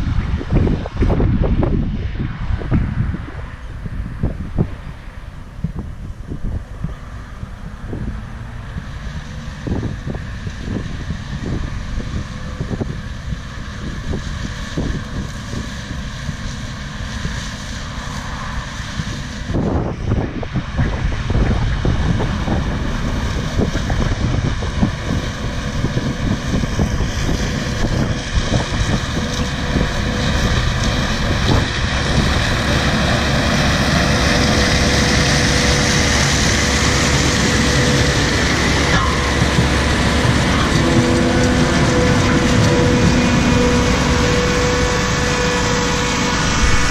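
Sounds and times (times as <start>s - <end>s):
steady whine: 0.0s - 46.9s
wind buffeting microphone: 0.0s - 46.9s
beet harvester running: 2.6s - 46.9s.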